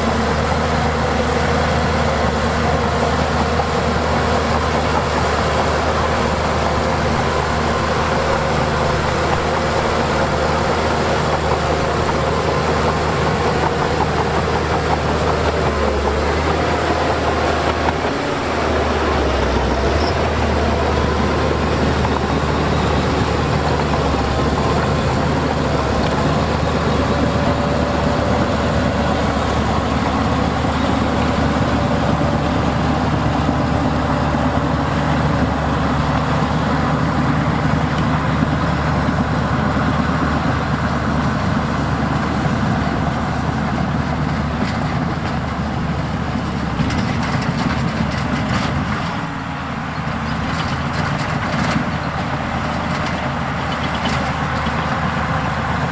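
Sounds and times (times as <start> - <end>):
heavy diesel machinery running: 0.0 - 55.9.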